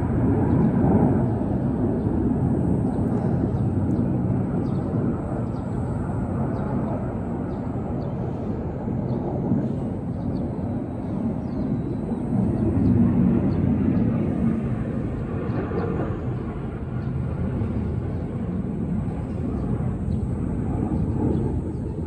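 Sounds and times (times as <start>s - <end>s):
distant jet rumble: 0.0s - 22.0s.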